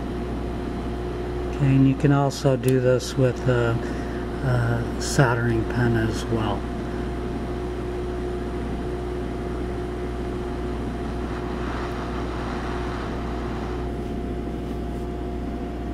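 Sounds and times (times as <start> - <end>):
hot-air tool fan blowing: 0.0 - 15.9.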